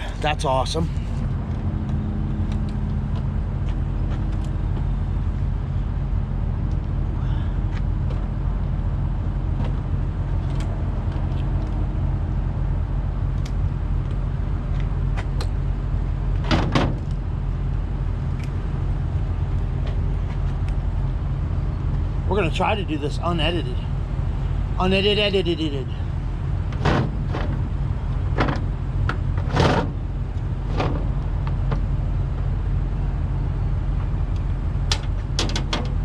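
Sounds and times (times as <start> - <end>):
diesel engine hum: 0.0 - 36.0.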